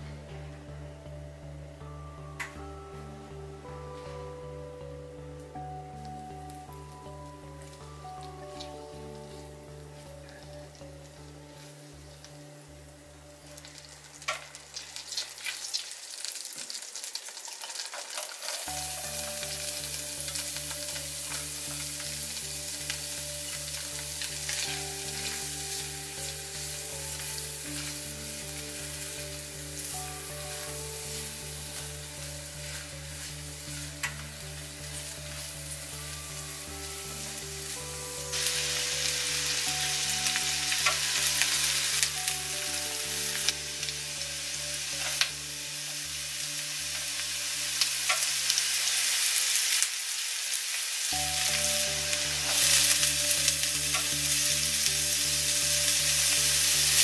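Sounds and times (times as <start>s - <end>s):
onion sizzling in a pan: 3.6s - 57.0s.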